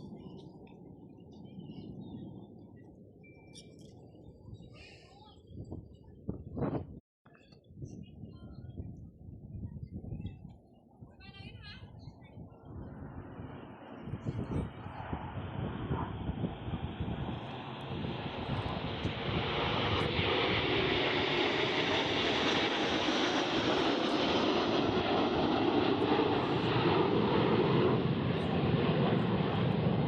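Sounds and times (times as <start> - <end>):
aircraft engines passing overhead: 0.0 - 6.8, 11.8 - 30.0.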